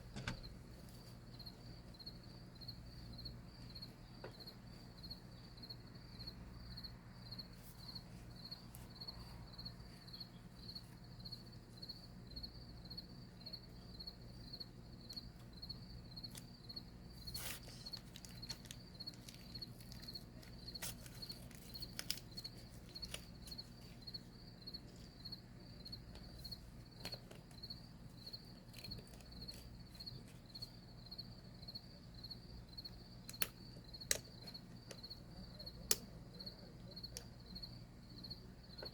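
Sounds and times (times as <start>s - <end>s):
cricket chirping: 0.0s - 38.9s
low steady hum: 0.0s - 38.9s.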